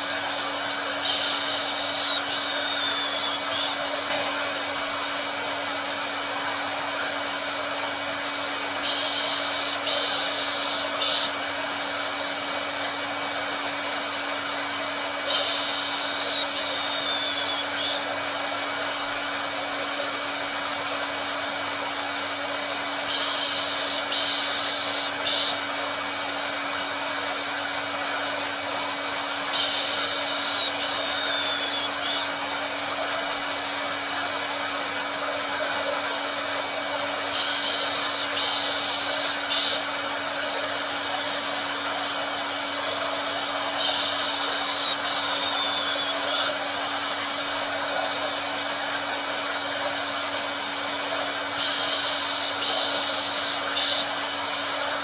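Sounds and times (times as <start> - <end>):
brighter hissing bursts: 0.0 - 19.8, 20.7 - 55.0
hair dryer blowing: 0.0 - 55.0.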